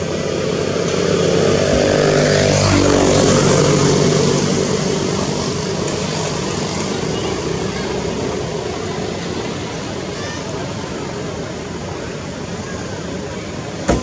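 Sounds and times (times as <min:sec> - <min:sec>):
aircraft engine drone passing: 0:00.0 - 0:13.8.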